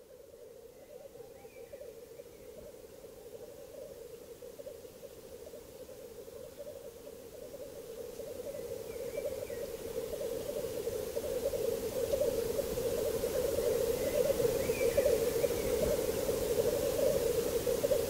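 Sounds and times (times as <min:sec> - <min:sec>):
grouse bubbling cooing chorus: 0:00.5 - 0:18.0.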